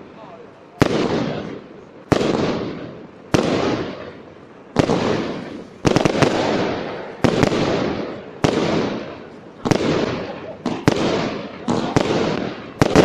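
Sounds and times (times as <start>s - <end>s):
fireworks bangs with rumbling echo: 0.0s - 13.0s
firework cracks: 0.6s - 13.0s.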